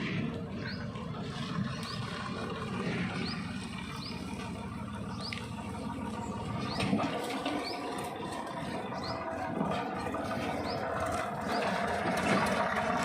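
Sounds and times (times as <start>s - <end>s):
diesel machinery rumbling: 0.0s - 13.0s.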